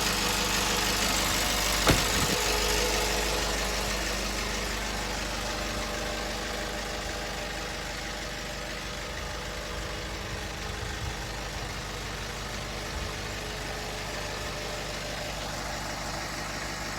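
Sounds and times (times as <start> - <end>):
truck engine idling: 0.0 - 16.9.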